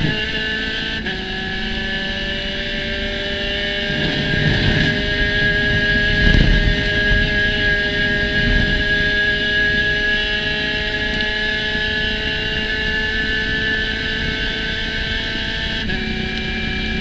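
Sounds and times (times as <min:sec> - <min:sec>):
race car engine running: 0:00.0 - 0:17.0.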